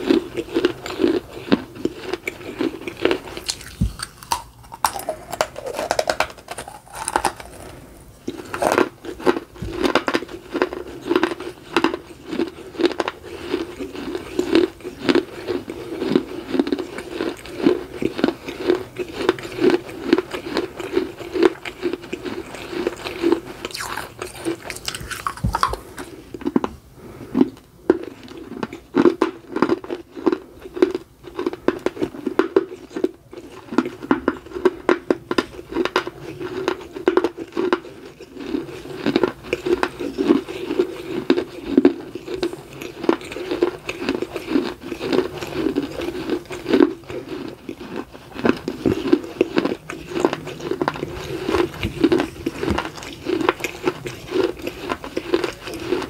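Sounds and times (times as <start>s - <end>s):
crunching and chewing dry clay: 0.0s - 56.0s.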